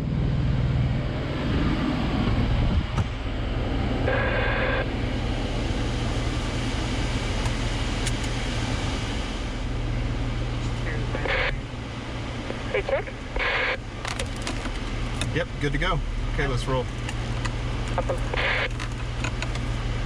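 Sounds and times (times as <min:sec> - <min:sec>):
engine and road noise in cabin: 0:00.0 - 0:20.0.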